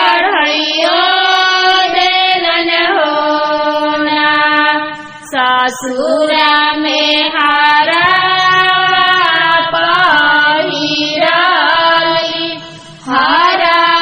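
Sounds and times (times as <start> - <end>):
high voice singing folk song: 0.0 - 14.0.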